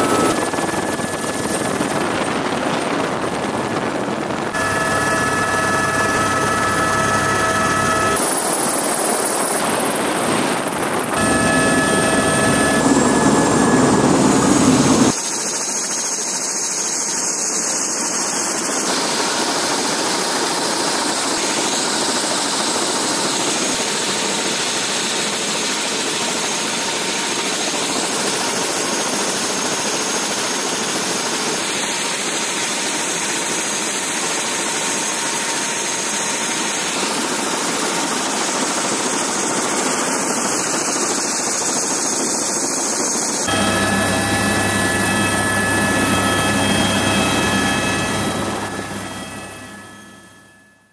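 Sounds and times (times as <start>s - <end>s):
helicopter rotor and engine: 0.0s - 50.9s
helicopter turbine whine: 0.0s - 50.9s.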